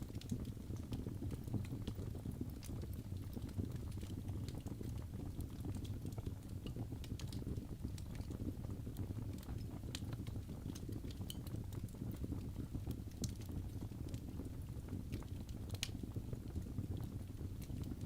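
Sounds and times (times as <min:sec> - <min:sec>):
fire crackling and popping: 0:00.0 - 0:18.0
fire flames rumbling: 0:00.0 - 0:18.0.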